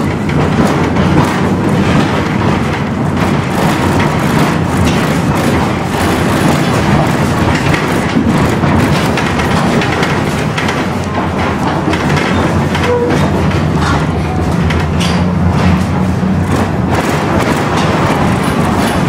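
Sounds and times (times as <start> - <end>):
clacks over track points: 0.0 - 19.0
tram wheels rumbling on rails: 0.0 - 19.0.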